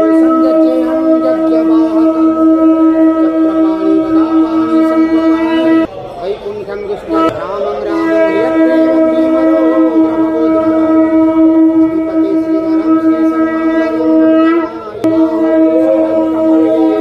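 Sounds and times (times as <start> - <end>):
conch shell blown: 0.0 - 5.9, 7.1 - 17.0.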